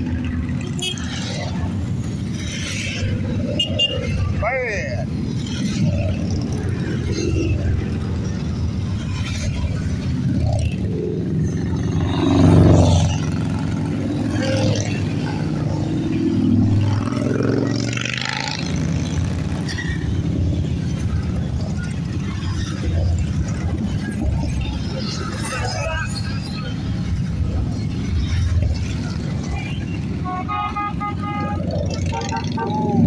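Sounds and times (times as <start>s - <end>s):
motorcycles rumbling past: 0.0s - 33.0s.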